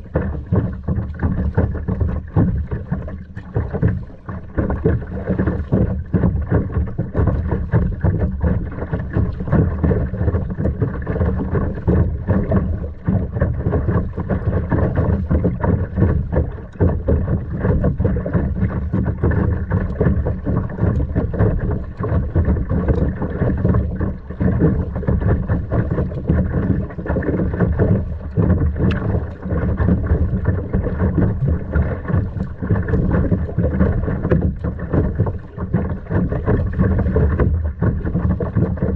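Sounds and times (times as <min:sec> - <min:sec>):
water sloshing around kayak: 0:00.0 - 0:38.9.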